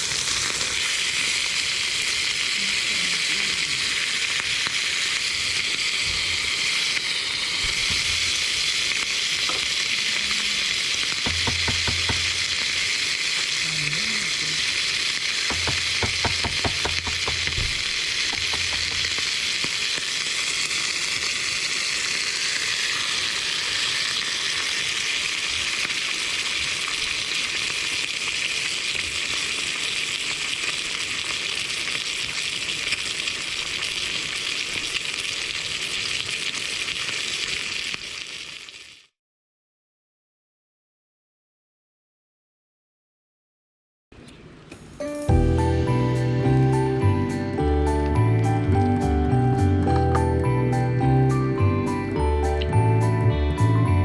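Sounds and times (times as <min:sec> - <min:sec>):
food sizzling in frying pan: 0:00.0 - 0:39.1, 0:45.0 - 0:54.0.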